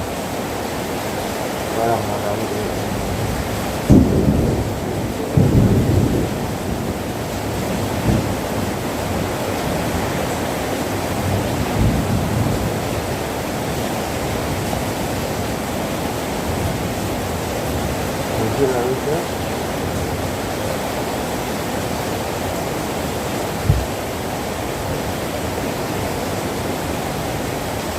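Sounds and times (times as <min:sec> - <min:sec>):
heavy rain: 0:00.0 - 0:27.9.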